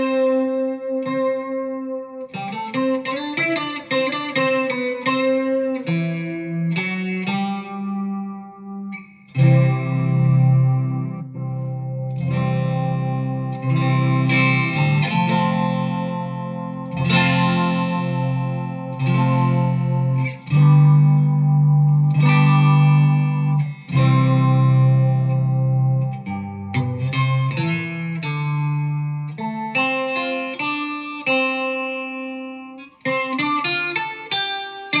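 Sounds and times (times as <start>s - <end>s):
synth guitar chords ringing: 0.0s - 35.0s.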